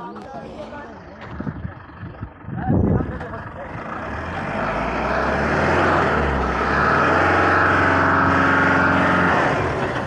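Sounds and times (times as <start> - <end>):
diesel truck engine under load: 0.0 - 10.0.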